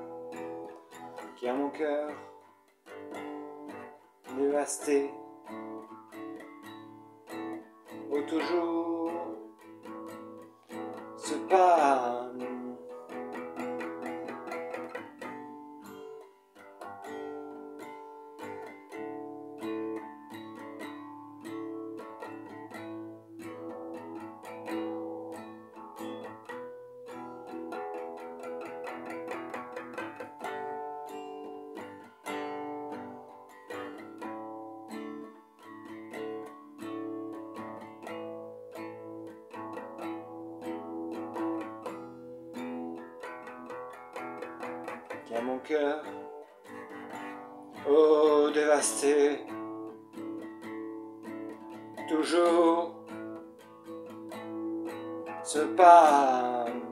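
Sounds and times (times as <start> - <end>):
acoustic guitar: 0.0 - 56.9.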